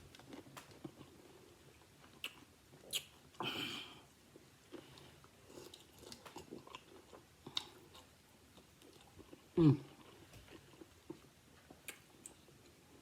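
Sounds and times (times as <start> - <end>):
chewing and mouth smacking: 0.1 - 3.2, 4.7 - 12.8.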